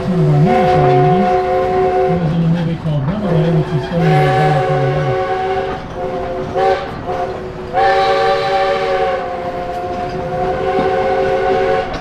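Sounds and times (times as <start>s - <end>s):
steam whistle blast: 0.0s - 2.4s, 3.3s - 12.0s
train rumble: 0.0s - 12.0s.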